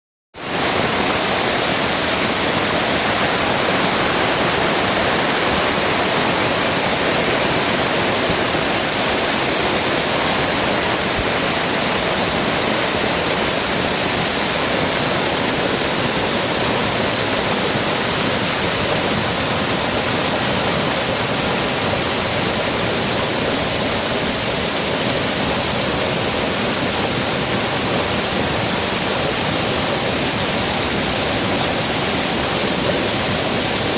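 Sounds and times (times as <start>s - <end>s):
heavy rain: 0.4s - 33.9s
river rushing: 0.4s - 33.9s.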